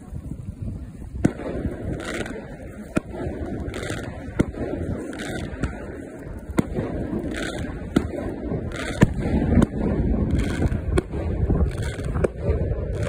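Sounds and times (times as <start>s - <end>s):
fireworks bangs: 0.0s - 13.0s
wind rumble on microphone: 0.0s - 13.0s.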